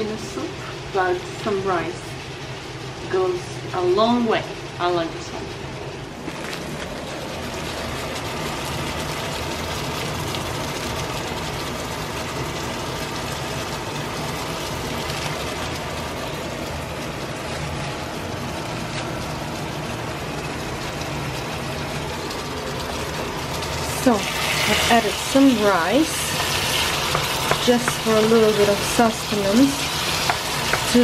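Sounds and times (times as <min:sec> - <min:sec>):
pots boiling on stove: 0:00.0 - 0:31.0.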